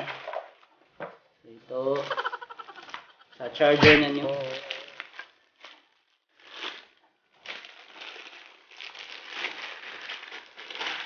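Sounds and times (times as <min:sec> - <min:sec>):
plastic bag crinkling: 0:02.0 - 0:11.0.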